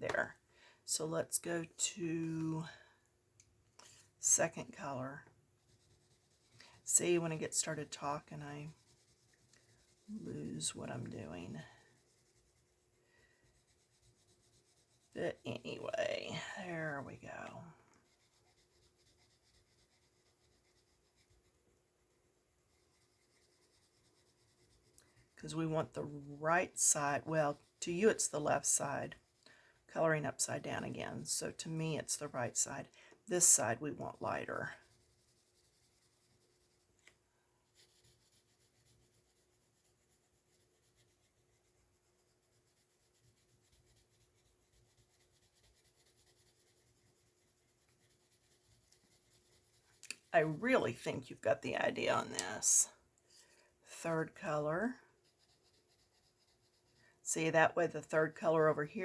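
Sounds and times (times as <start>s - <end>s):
pencil scratching on paper: 3.8s - 21.8s, 22.6s - 59.0s.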